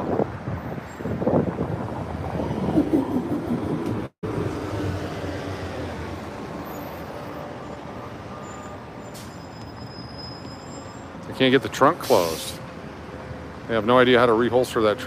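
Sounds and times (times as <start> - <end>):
bus engine rumbling: 0.0 - 13.4
street traffic hum: 0.0 - 15.0.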